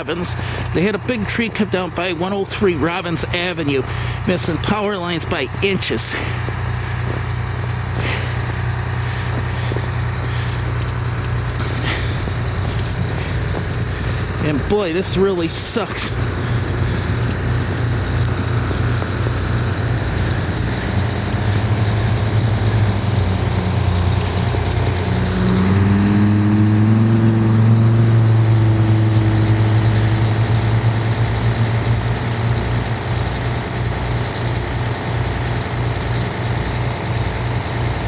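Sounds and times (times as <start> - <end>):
large vehicle engine running: 0.0 - 38.0.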